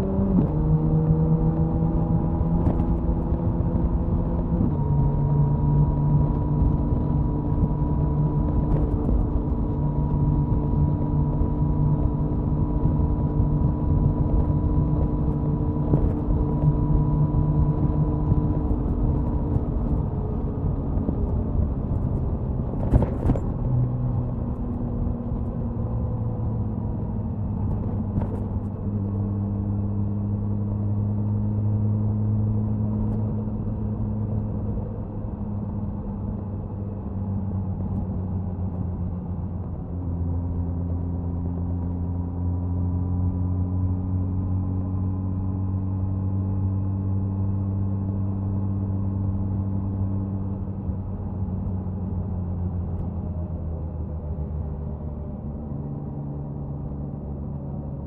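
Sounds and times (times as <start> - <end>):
motorcycle exhaust cruising: 0.0 - 58.0.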